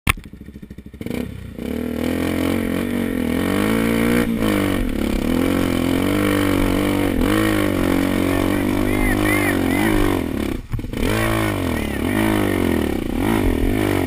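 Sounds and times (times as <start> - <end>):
dirt bike engine revving: 0.2 - 14.0.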